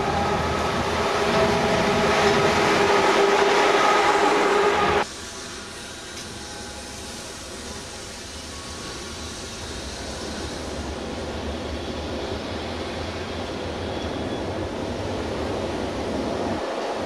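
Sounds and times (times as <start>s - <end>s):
high-speed train rushing: 0.0s - 17.0s.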